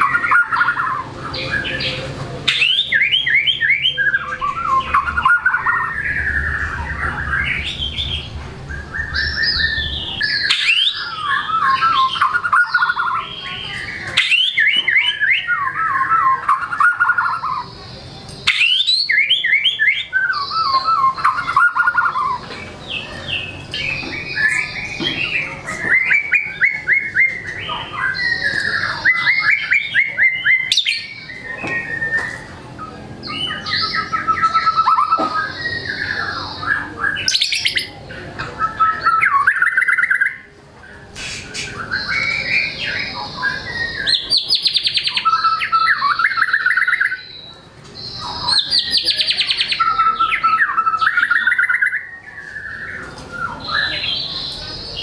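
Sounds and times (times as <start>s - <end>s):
songbird singing trills and whistles: 0.0s - 55.0s.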